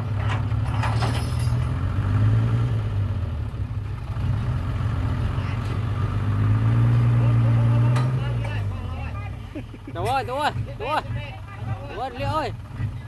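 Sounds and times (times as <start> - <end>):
tractor and truck engines running: 0.0 - 13.0.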